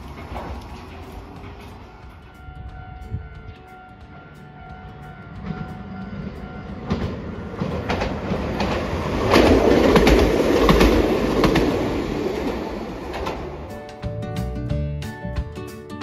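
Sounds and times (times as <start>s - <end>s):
wheels clicking over rail joints: 0.0s - 14.4s
tram passing: 0.0s - 15.9s.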